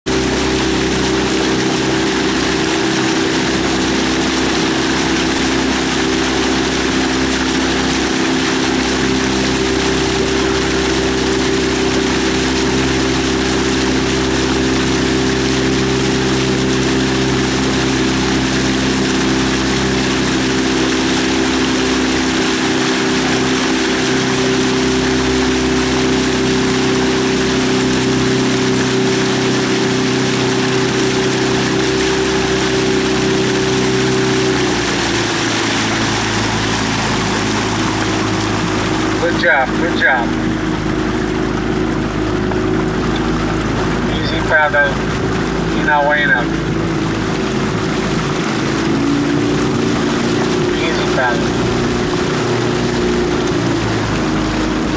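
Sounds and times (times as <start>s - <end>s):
motorboat engine running: 0.0s - 54.9s.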